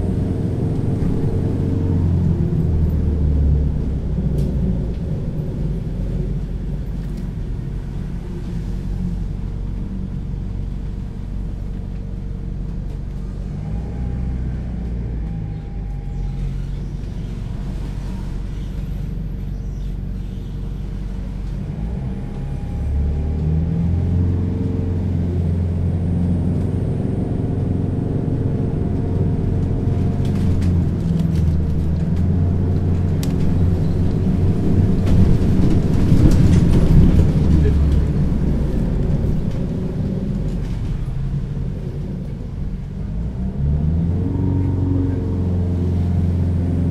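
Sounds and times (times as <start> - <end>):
diesel engine rumbling: 0.0 - 46.9.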